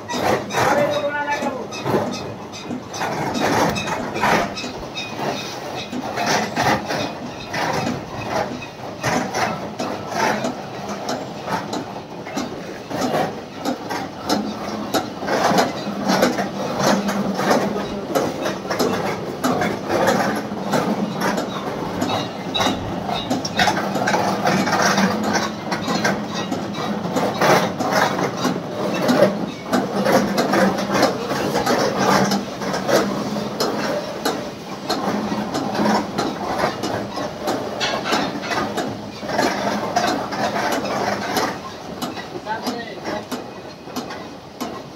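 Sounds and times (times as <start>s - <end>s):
baler machine hum and rattling: 0.0s - 44.9s.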